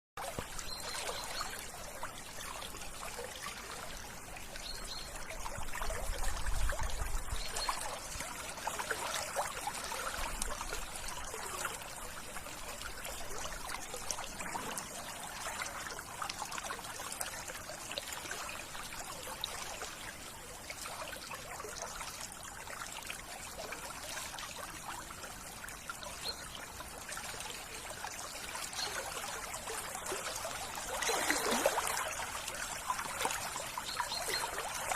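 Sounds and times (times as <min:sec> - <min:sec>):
stream water trickling: 0:00.2 - 0:34.9.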